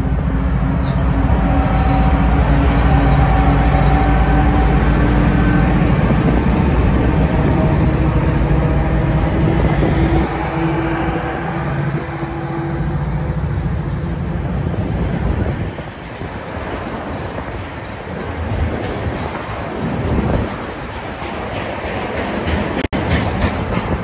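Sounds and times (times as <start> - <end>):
diesel locomotive engines droning: 0.0 - 24.0
freight cars rolling over rails: 0.0 - 24.0.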